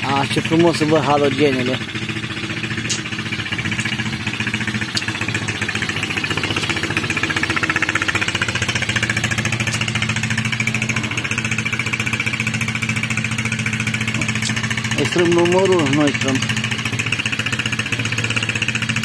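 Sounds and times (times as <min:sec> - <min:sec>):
quad bike engine idling: 0:00.0 - 0:19.0.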